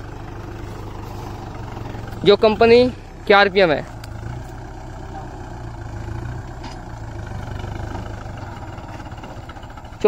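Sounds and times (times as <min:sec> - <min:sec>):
tractor diesel engine drone: 0:00.0 - 0:10.0.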